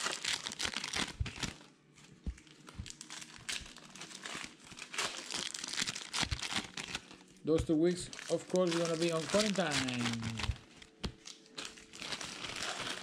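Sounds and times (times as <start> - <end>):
foil wrappers crinkling and tearing: 0.0 - 13.0.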